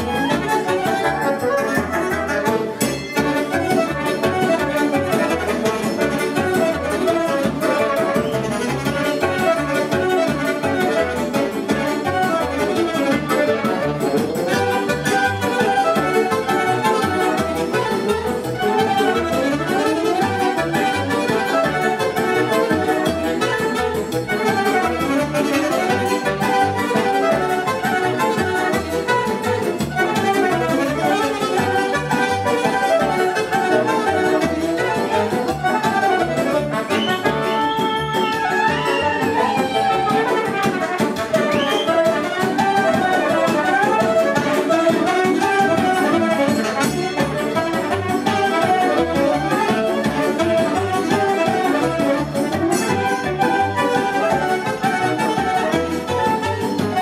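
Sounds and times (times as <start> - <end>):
accordion melody: 0.0 - 57.0
dance band over loudspeakers: 0.0 - 57.0.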